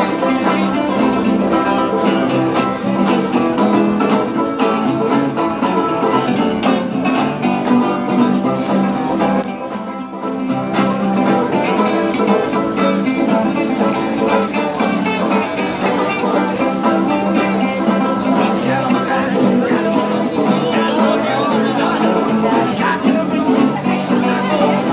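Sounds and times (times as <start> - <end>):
banjos strummed and picked: 0.0 - 24.9
guitars playing: 0.0 - 24.9.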